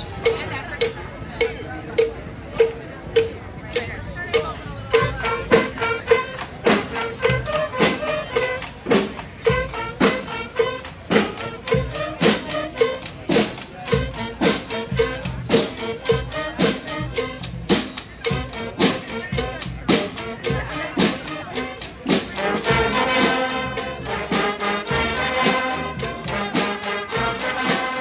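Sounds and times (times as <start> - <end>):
steady drum beat: 0.0 - 28.0
street brass band playing: 0.0 - 28.0.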